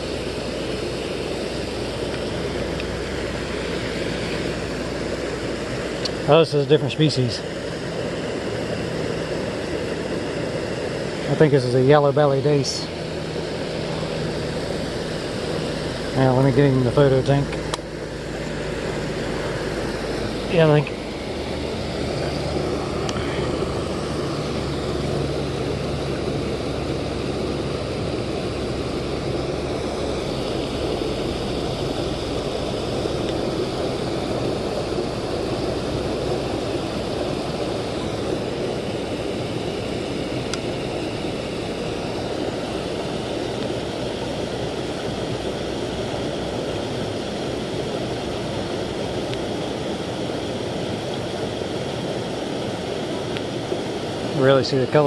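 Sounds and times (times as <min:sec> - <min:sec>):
creek water rushing over cascade: 0:00.0 - 0:55.0.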